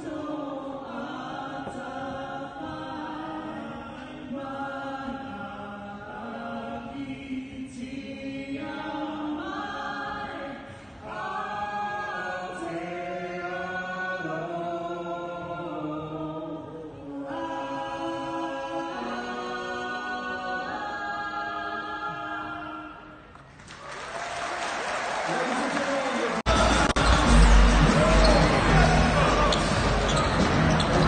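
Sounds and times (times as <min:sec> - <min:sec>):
crowd singing anthem: 0:00.0 - 0:23.3, 0:26.5 - 0:31.0.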